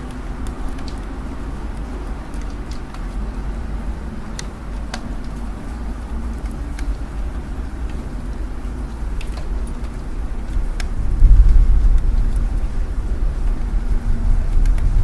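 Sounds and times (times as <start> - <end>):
city road traffic rumble: 0.0 - 15.0
raindrop taps: 0.0 - 15.0.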